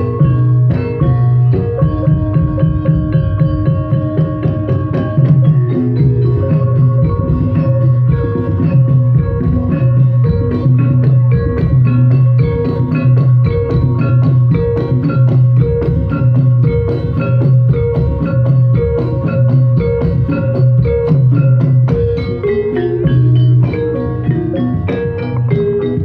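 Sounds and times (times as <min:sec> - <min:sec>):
gamelan playing: 0:00.0 - 0:26.0
metallophones struck with mallets: 0:00.0 - 0:26.0.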